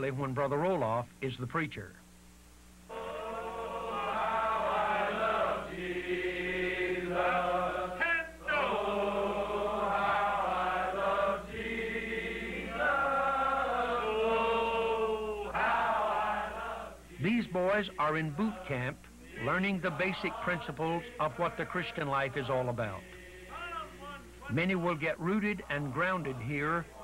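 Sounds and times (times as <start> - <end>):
congregation singing a hymn: 2.9 - 27.0.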